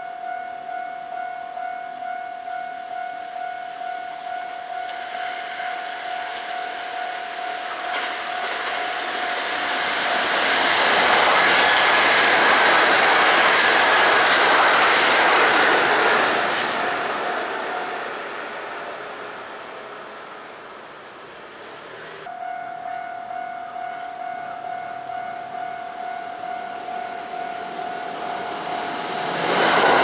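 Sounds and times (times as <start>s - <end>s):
electric train passing: 0.7s - 30.0s.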